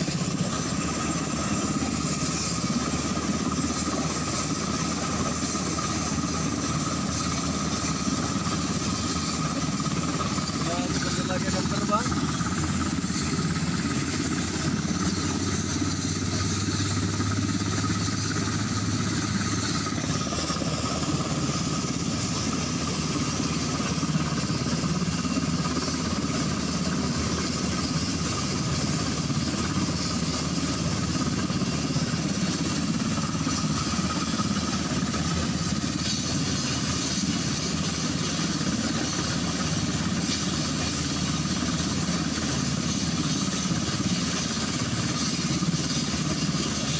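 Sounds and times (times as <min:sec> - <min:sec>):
helicopter engines running: 0:00.0 - 0:46.9.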